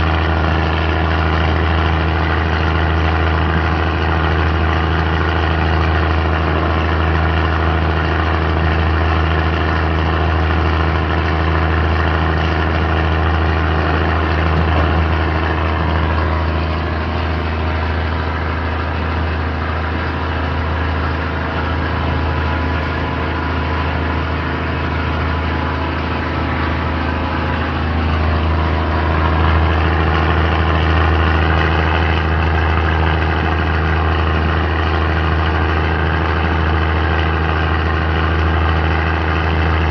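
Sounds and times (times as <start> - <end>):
diesel train engine drone: 0.0 - 39.9.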